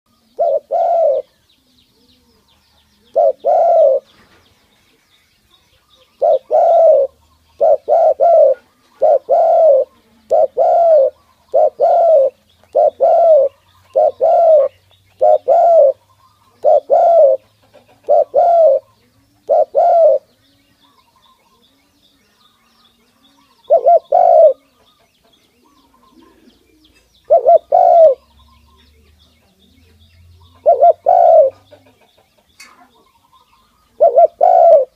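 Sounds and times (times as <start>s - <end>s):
dove cooing: 0.1s - 4.4s, 5.8s - 34.9s.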